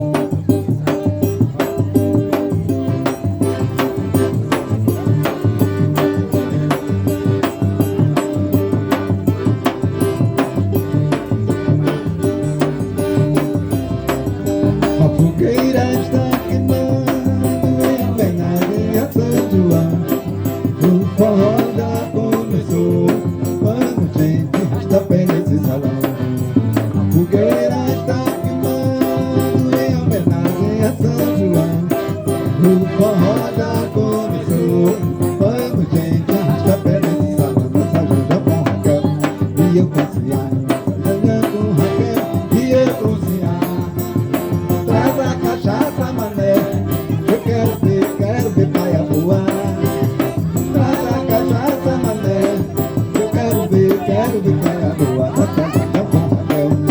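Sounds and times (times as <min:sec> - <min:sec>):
band playing live: 0:00.0 - 0:56.9
busy percussion rhythm: 0:00.0 - 0:56.9.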